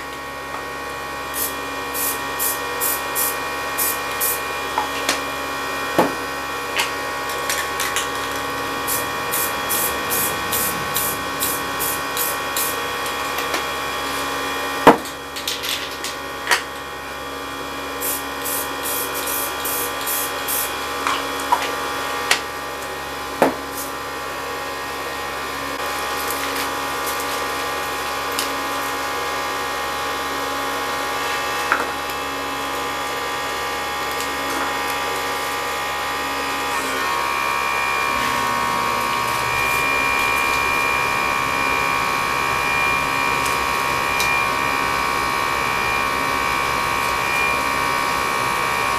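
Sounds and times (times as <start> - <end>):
mechanical hum: 0.0 - 48.9.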